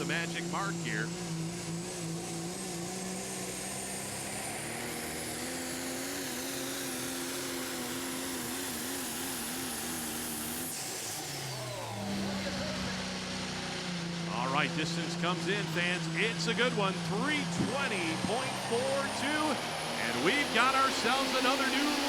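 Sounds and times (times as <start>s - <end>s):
diesel truck engine running: 0.0s - 22.0s
high-pitched turbo whine: 0.0s - 22.0s.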